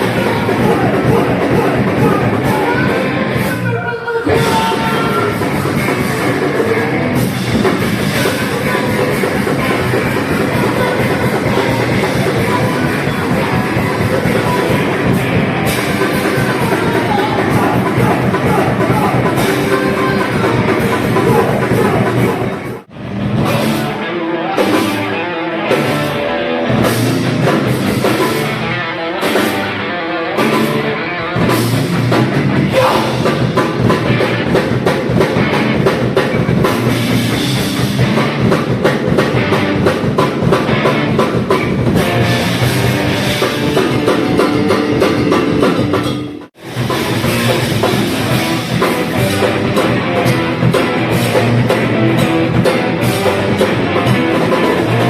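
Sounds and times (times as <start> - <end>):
distorted guitars: 0.0 - 55.0
drum kit: 0.0 - 55.0
heavy metal band playing live: 0.0 - 55.0.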